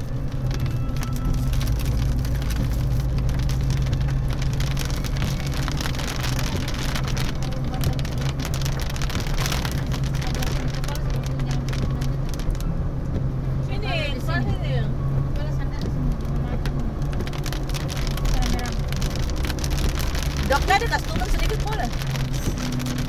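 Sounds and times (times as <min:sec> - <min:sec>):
car engine and tyres humming: 0:00.0 - 0:23.0
heavy rain on car roof: 0:00.0 - 0:23.0.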